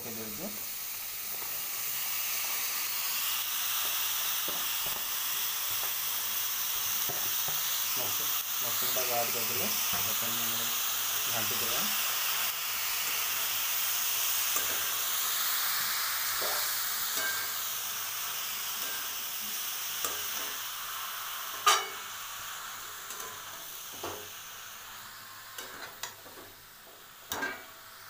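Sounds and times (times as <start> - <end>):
mushrooms sizzling in a pan: 0.0 - 28.0.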